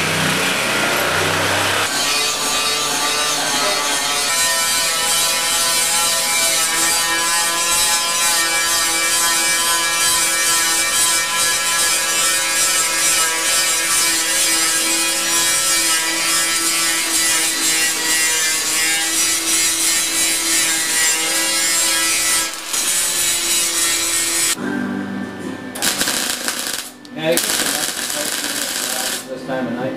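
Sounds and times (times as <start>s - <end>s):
electric grinder grinding metal: 0.0s - 24.6s, 25.8s - 29.3s.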